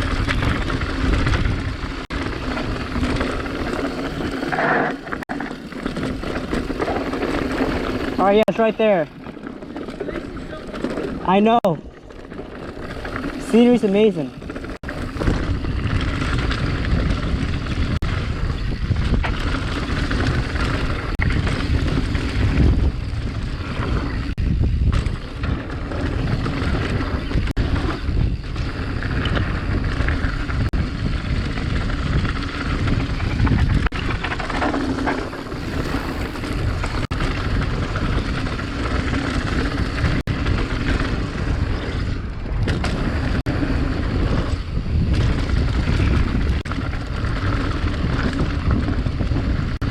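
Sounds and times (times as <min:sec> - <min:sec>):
wind buffeting microphone: 0:00.0 - 0:04.5, 0:05.7 - 0:49.9
bike clicks and rattles: 0:00.0 - 0:49.9
mountain bike rumble on dirt: 0:00.0 - 0:49.9.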